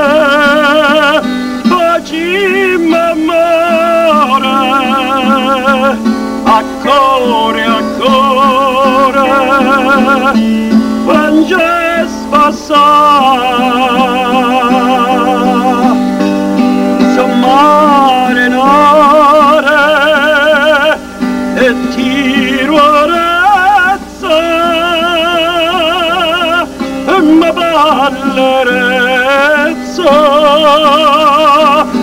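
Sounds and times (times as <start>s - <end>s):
man singing with vibrato: 0.0s - 32.0s
strummed acoustic guitar: 0.0s - 32.0s.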